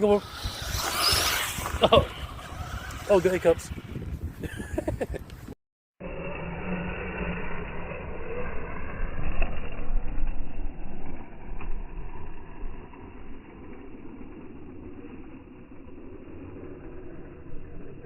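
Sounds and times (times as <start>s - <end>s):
rc truck motor and churning tyres: 0.0s - 18.0s.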